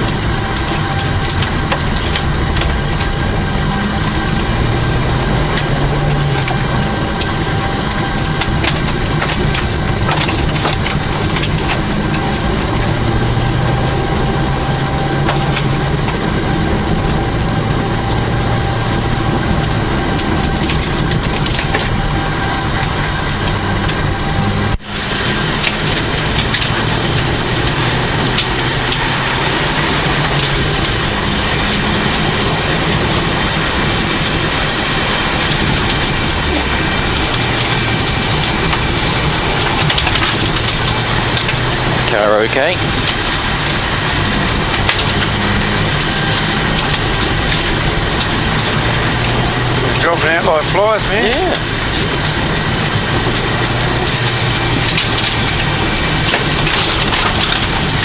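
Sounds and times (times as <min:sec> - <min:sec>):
gravel crunching: 0:00.0 - 0:58.0
rally car engine driven hard: 0:00.0 - 0:58.0.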